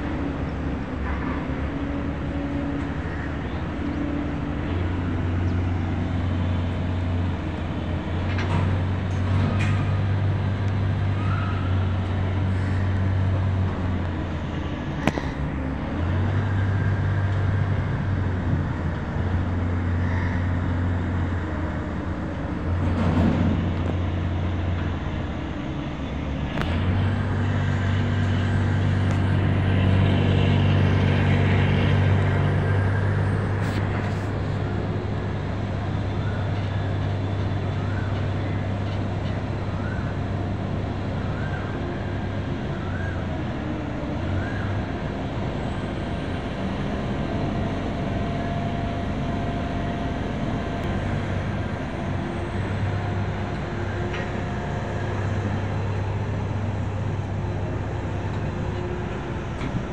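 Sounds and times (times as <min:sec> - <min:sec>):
heavy machinery droning: 0:00.0 - 0:59.9.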